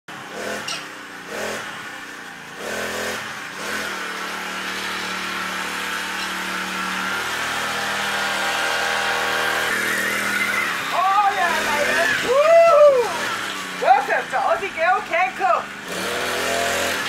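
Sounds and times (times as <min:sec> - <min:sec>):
small motor humming: 0:00.1 - 0:14.3, 0:15.6 - 0:17.0.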